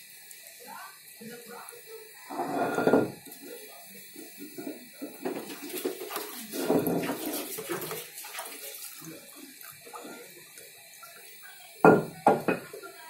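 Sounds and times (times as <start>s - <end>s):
juice trickling through a strainer: 0.0s - 13.0s.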